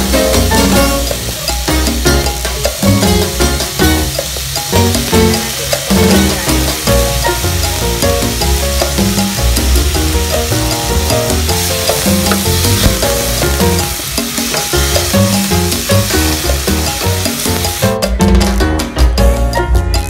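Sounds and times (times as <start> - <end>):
chicken sizzling in a frying pan: 0.0 - 18.7
background music: 0.0 - 20.0.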